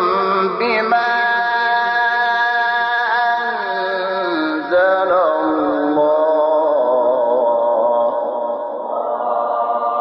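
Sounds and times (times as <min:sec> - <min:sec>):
man reciting melodically: 0:00.0 - 0:08.9.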